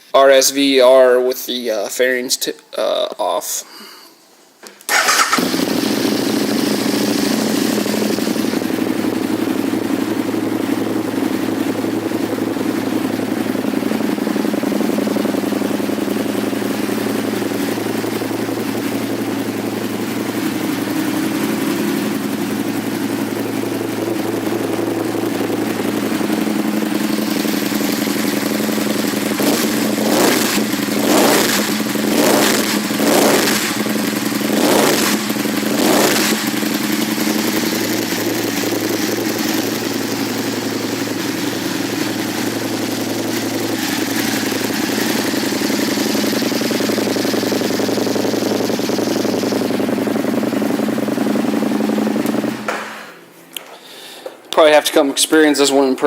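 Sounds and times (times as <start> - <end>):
motorcycle engine idling and revving: 4.9 - 53.2.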